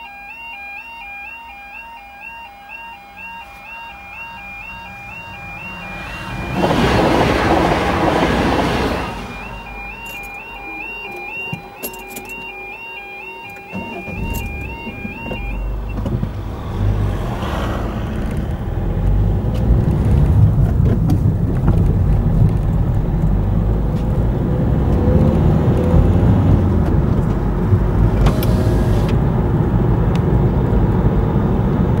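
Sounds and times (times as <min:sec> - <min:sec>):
car engine and tyre noise: 0:02.8 - 0:32.0.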